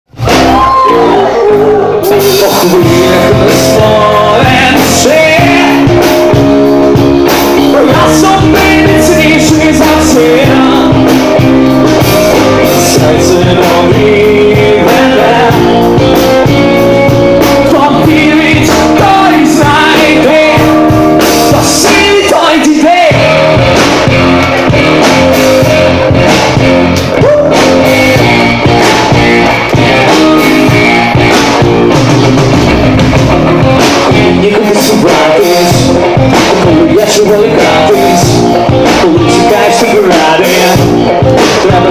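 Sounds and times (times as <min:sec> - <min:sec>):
rock band playing: 0:00.1 - 0:41.9
person singing: 0:00.3 - 0:28.3, 0:33.3 - 0:41.9.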